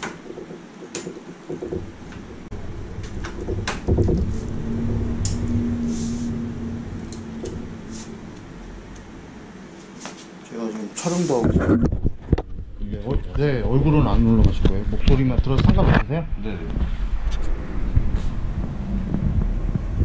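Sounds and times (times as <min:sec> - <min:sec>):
computer fans humming: 0:00.0 - 0:20.0.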